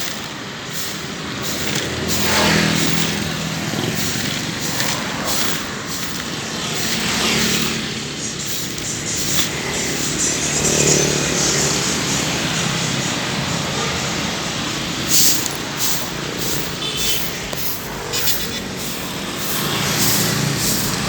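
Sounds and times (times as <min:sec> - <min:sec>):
broom sweeping sand: 0:00.0 - 0:11.4, 0:14.8 - 0:21.0
road traffic going by: 0:00.0 - 0:21.0.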